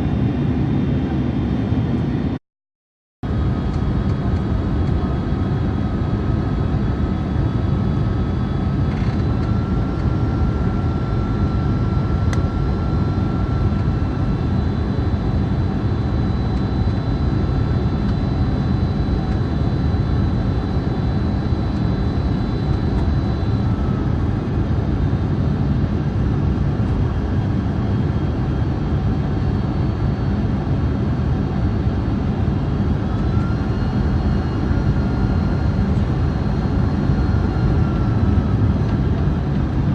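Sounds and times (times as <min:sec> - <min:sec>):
faint high whine: 0:03.3 - 0:39.9
jet engines roaring: 0:03.3 - 0:39.9.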